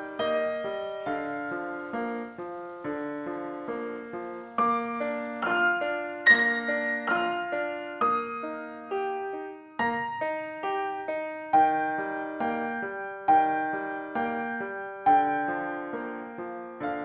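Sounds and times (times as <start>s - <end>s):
piano notes and chords ringing: 0.0s - 17.0s.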